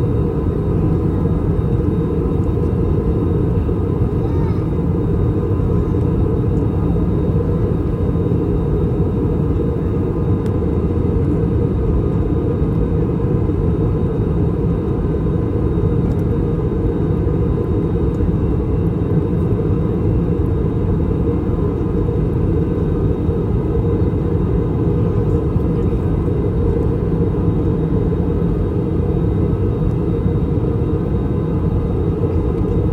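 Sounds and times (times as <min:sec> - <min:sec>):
aircraft cabin rumble: 0:00.0 - 0:32.9.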